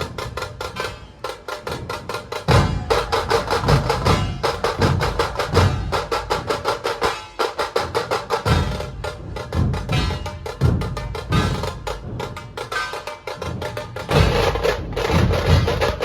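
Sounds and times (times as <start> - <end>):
booming drum beats: 0.0 - 16.0
sharp drum strokes: 0.0 - 16.0.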